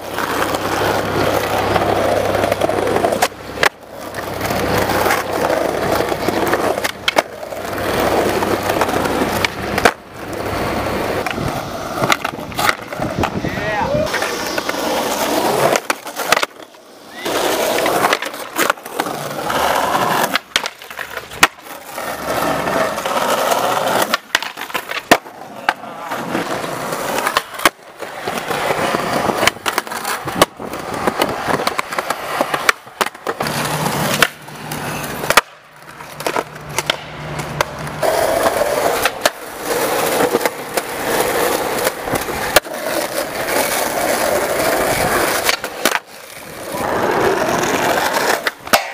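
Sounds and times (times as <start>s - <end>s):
skateboard clacks popping and landing: 0.0s - 48.9s
skateboard wheels rolling on concrete: 0.0s - 48.9s.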